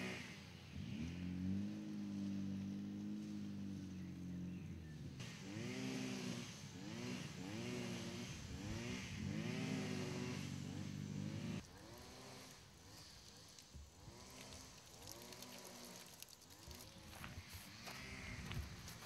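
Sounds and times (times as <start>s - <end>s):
small engine revving: 0.0s - 19.0s.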